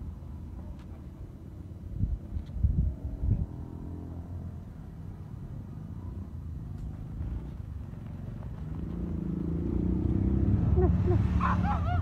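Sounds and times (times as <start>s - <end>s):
motor vehicle passing: 1.3s - 12.0s.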